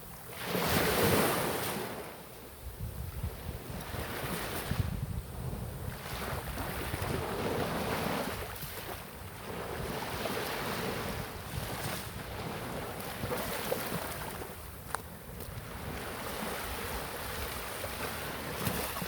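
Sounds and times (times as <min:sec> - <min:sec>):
wind buffeting microphone: 0:02.6 - 0:19.0.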